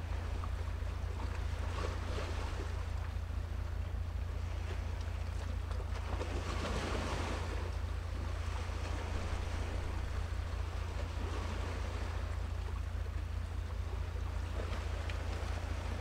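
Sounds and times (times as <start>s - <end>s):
sea waves: 0.0s - 16.0s
wind rumbling on microphone: 0.0s - 16.0s.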